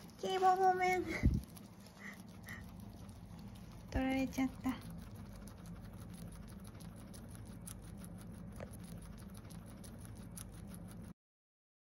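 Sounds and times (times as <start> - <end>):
guinea pigs chewing grass: 0.0 - 11.2.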